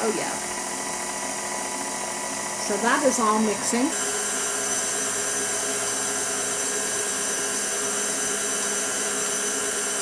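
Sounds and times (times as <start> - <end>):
stand mixer motor whining: 0.0 - 10.0.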